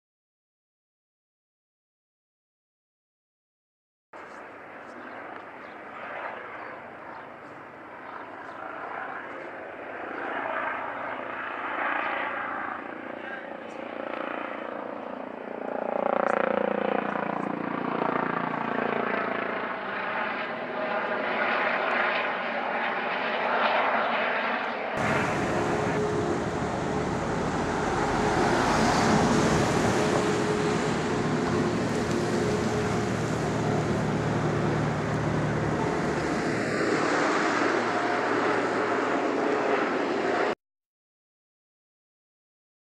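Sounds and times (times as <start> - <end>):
helicopter flying past: 4.2 - 40.6
helicopter rotor and engine: 4.2 - 40.6.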